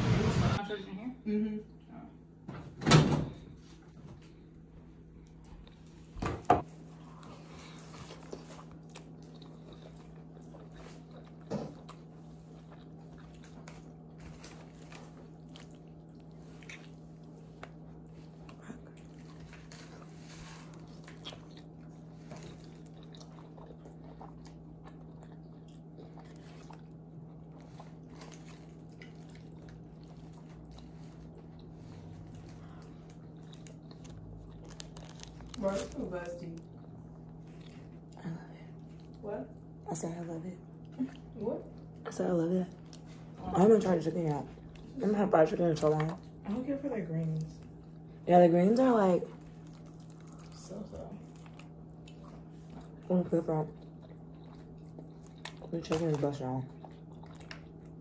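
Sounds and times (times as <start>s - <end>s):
steady low hum: 0.0s - 58.0s
person chewing food: 6.6s - 39.8s, 40.6s - 45.2s, 47.2s - 58.0s.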